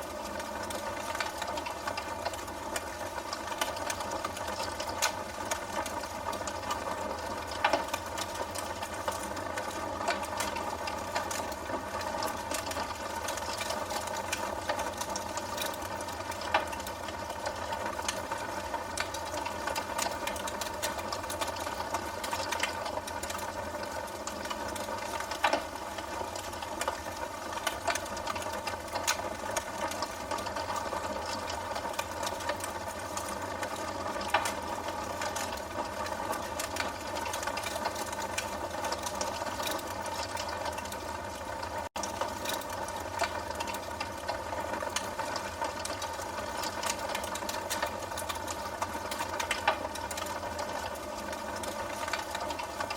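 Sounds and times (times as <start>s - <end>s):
wood fire hissing and crackling: 0.0s - 52.9s.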